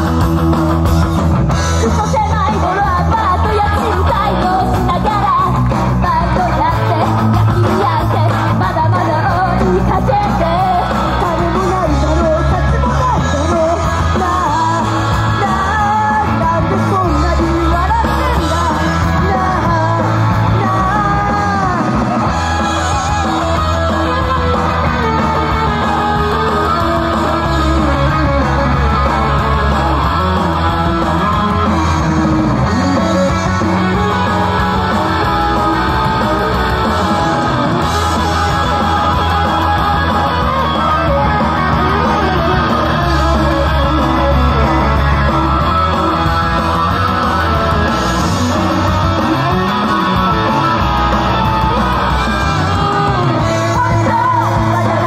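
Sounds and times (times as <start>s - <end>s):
guitar-driven rock music: 0.0s - 55.0s.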